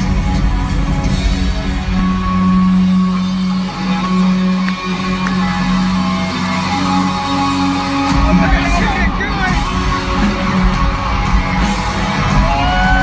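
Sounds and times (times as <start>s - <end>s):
electric guitar sustained notes: 0.0s - 13.0s
live concert music: 0.0s - 13.0s.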